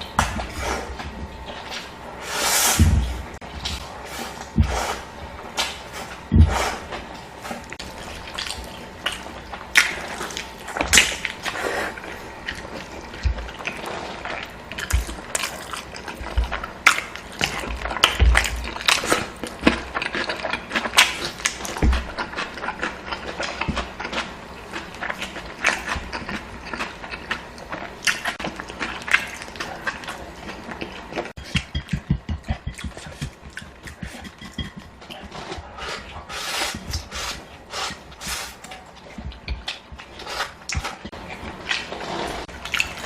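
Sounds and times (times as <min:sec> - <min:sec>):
person chewing and smacking food: 0:03.4 - 0:43.0.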